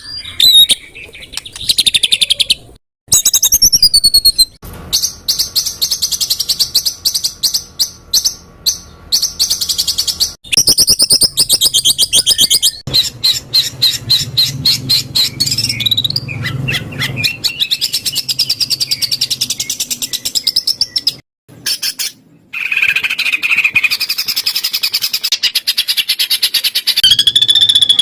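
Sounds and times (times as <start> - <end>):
songbird singing fast trills: 0.0 - 21.2, 22.8 - 28.0.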